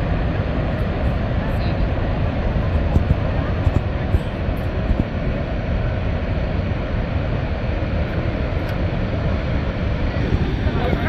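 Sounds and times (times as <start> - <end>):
waterfall roaring: 0.0 - 11.0
wind on microphone: 0.0 - 11.0.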